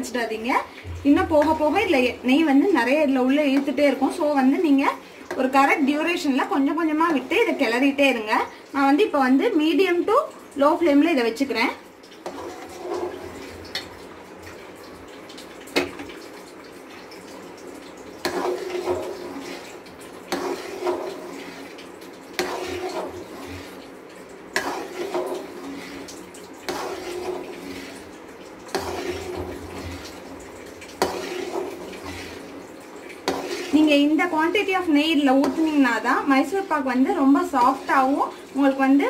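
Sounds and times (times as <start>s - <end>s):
ladle stirring batter in pan: 0.4s - 8.3s, 12.0s - 39.0s.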